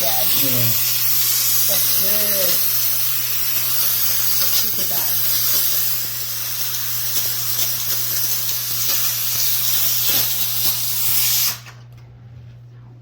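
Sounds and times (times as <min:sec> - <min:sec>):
steam cleaner hissing: 0:00.0 - 0:11.8.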